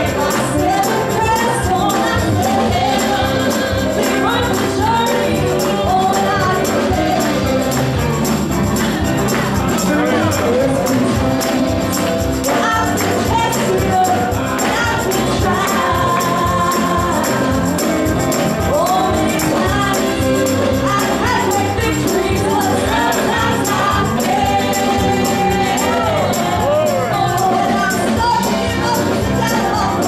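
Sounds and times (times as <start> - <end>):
band playing: 0.0 - 30.0
gospel singing voices: 0.0 - 30.0
tambourine beat: 0.0 - 30.0.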